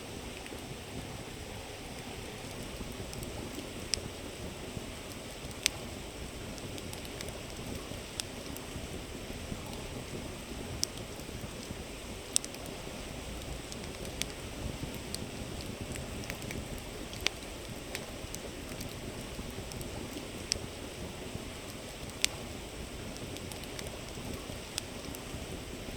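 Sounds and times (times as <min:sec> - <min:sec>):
campfire crackling and popping: 0:00.1 - 0:25.9.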